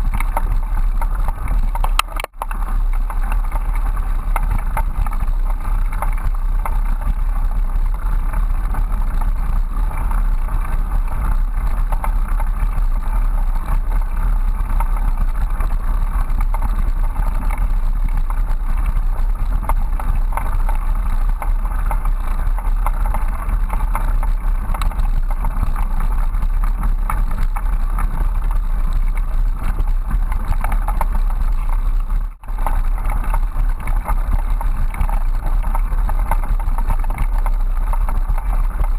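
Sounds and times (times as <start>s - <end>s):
bicycle tyre rumble on dirt: 0.0s - 38.9s
wind noise on microphone: 0.0s - 38.9s.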